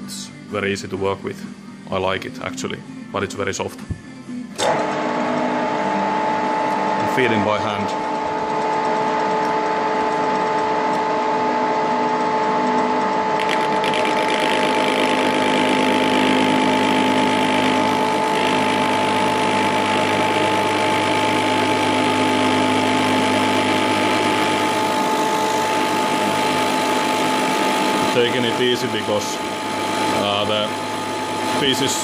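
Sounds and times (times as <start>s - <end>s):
lathe gear and motor whine: 4.6s - 32.0s.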